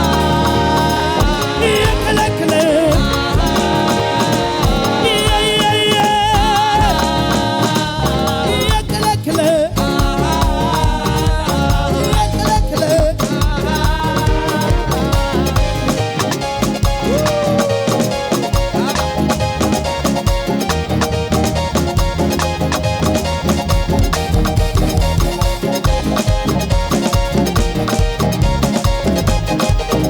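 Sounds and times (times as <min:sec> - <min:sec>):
upbeat dance music: 0:00.0 - 0:30.0.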